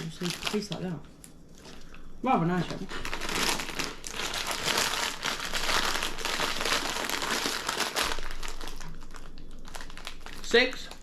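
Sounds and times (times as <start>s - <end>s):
plastic packaging crinkling: 0.0s - 1.0s, 1.6s - 11.0s.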